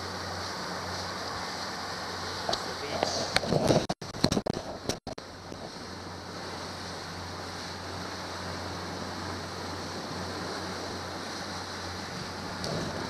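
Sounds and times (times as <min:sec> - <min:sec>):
motorboat engine drone: 0:00.0 - 0:13.0
water rushing along hull: 0:00.0 - 0:13.0
wind buffeting microphone: 0:02.4 - 0:13.0.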